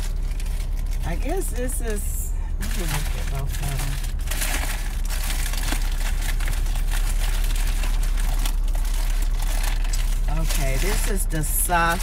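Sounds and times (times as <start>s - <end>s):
paper wrapping crinkling: 0.0s - 12.0s
steady low hum: 0.0s - 12.0s.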